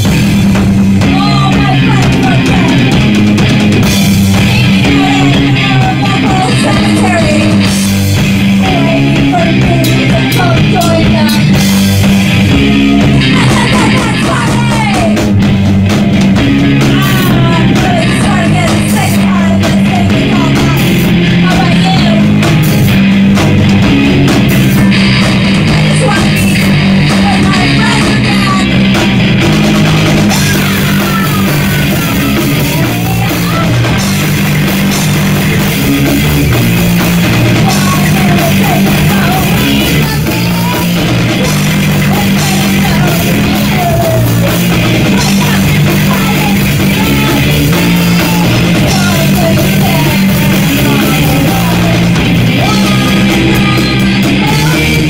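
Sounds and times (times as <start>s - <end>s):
distorted electric guitars: 0.0s - 55.0s
drum kit with cymbals: 0.0s - 55.0s
person singing and yelling: 0.9s - 3.1s, 4.3s - 7.7s, 8.4s - 11.7s, 12.5s - 15.4s, 16.6s - 22.4s, 24.6s - 28.9s, 30.3s - 36.3s, 37.2s - 55.0s.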